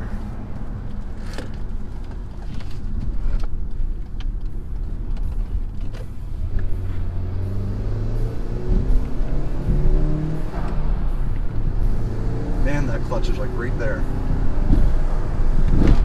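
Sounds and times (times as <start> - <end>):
engine hum: 0.0 - 16.0
road noise inside car: 0.0 - 16.0.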